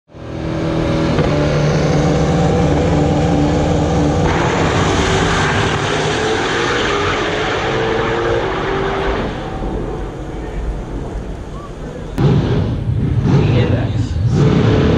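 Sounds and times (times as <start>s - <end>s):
drag racing engine running: 0.1s - 14.9s.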